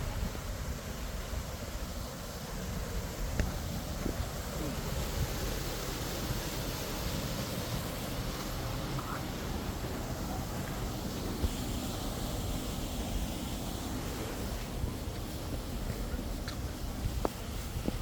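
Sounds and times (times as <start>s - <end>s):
steady rushing noise: 0.0s - 18.0s
wind buffeting microphone: 2.5s - 18.0s.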